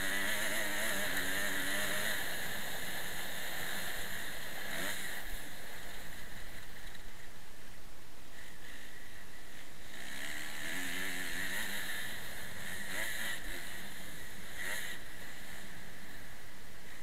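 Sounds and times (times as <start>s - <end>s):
motocross bike engine revving: 0.0s - 7.3s, 8.3s - 17.0s.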